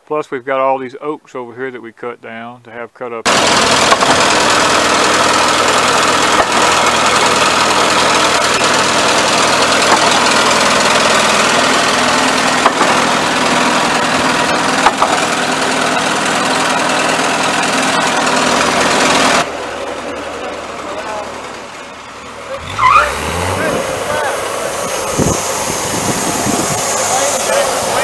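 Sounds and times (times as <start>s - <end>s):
sawmill engine running: 3.3s - 28.0s.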